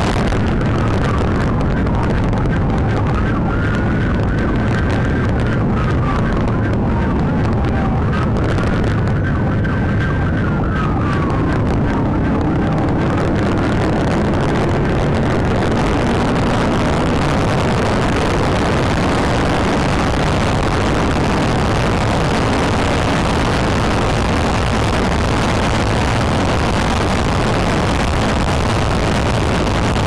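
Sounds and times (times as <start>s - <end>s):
siren wailing: 0.0s - 24.6s
road and engine noise: 0.0s - 30.0s.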